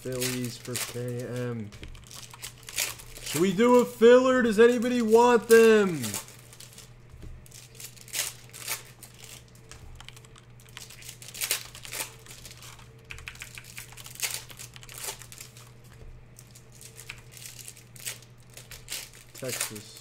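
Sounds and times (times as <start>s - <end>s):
faint steady hum: 0.0s - 20.0s
plastic packaging crinkling: 0.0s - 20.0s.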